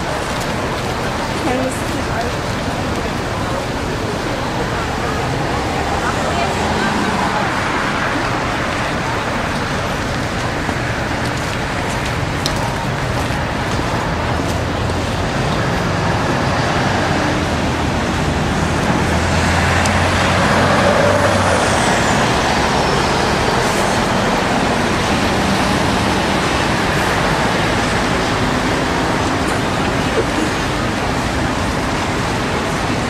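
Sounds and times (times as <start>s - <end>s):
bus engine hum passing: 0.0s - 33.0s
city street traffic: 0.0s - 33.0s.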